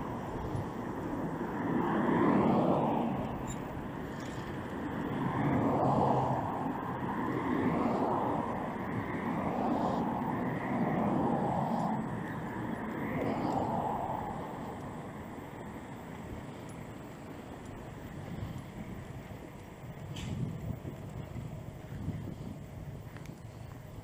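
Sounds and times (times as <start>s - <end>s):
street traffic rush: 0.0s - 24.0s.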